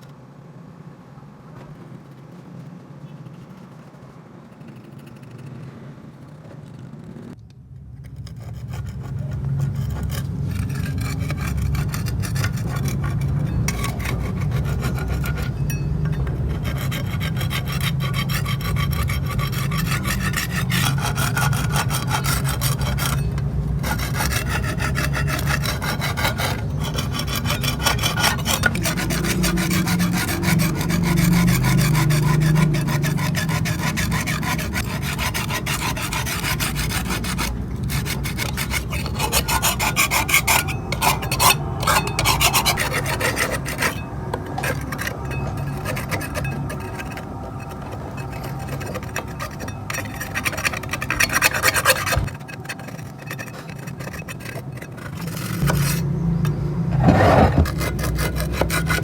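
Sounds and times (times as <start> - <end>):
abrasive scraping on metal: 8.0 - 59.0.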